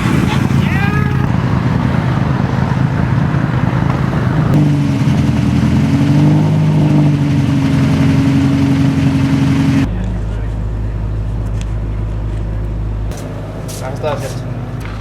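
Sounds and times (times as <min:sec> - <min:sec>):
car engine at steady revs: 0:00.0 - 0:15.0
loud engine with rushing noise: 0:00.0 - 0:15.0.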